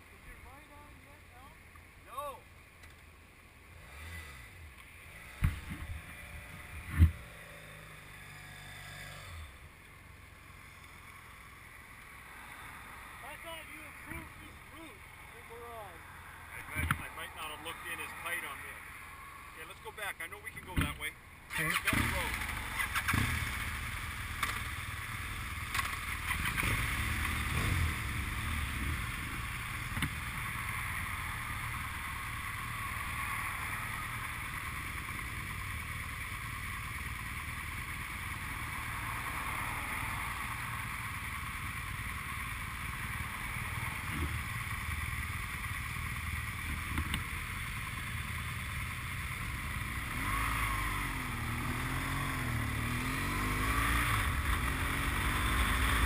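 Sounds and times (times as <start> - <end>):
vehicle road and wind noise: 0.0 - 56.0.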